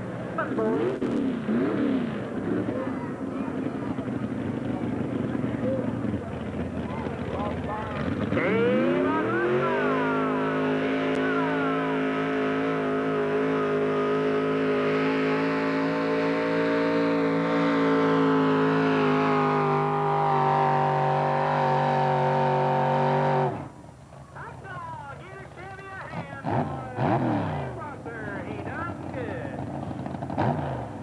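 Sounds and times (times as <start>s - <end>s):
truck engine at full throttle: 0.0s - 31.0s.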